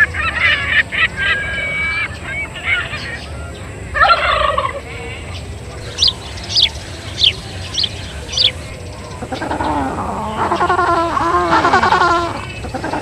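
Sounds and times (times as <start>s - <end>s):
songbird chirping: 0.0s - 13.0s
wavering animal call: 0.0s - 13.0s.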